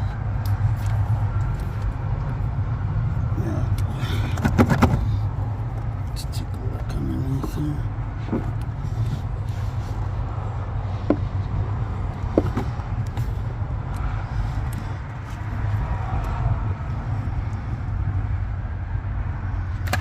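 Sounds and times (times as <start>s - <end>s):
diesel engine idling: 0.0s - 19.7s.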